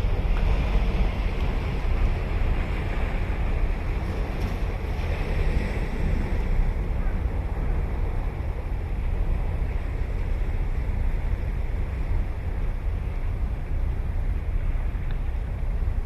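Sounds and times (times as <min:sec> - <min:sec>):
ocean surf washing onto beach: 0:00.0 - 0:16.0
wind rumble on microphone: 0:00.0 - 0:16.0.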